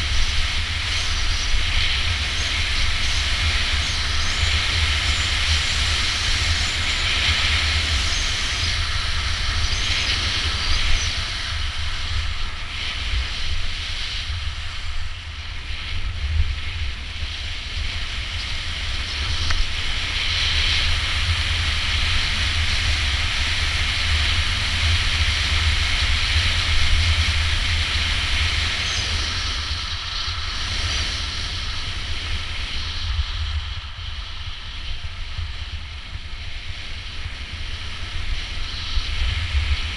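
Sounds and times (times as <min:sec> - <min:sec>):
skis hissing on snow: 0:00.0 - 0:39.9
wind buffeting microphone: 0:00.0 - 0:39.9.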